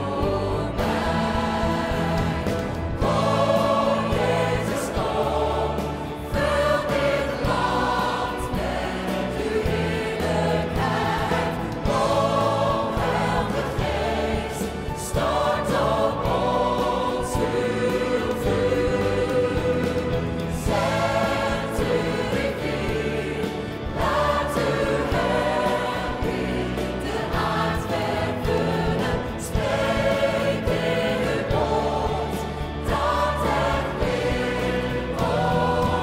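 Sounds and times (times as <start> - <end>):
band accompaniment: 0.0 - 36.0
choir and congregation singing: 0.0 - 36.0
soloists singing into microphones: 0.0 - 36.0.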